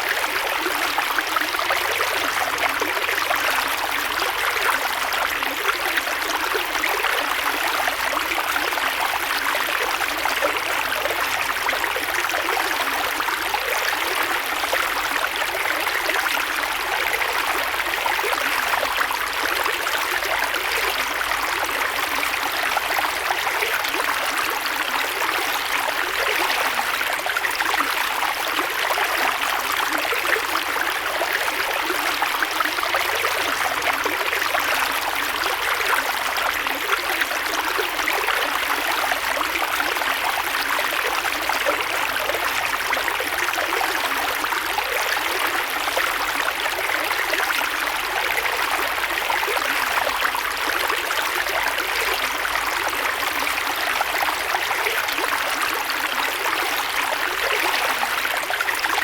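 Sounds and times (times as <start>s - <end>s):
creek flowing over rocks: 0.0s - 59.0s.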